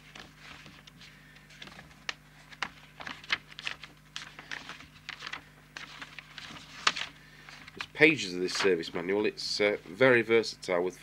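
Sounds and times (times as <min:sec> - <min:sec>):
paper pages rustling: 0:00.0 - 0:09.1.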